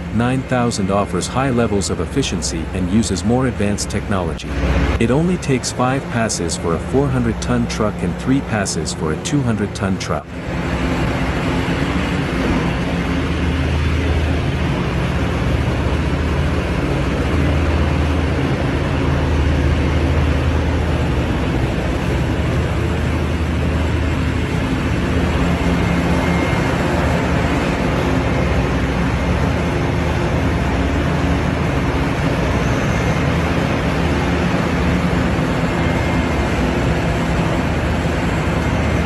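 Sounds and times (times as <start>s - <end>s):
heavy machinery engine drone: 0.0s - 39.0s.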